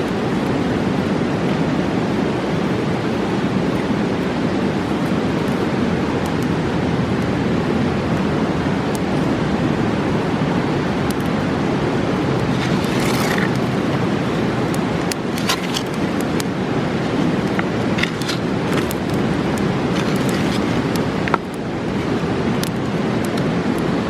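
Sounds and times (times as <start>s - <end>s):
campfire crackling and popping: 0.0s - 24.0s
river rushing: 0.0s - 24.0s.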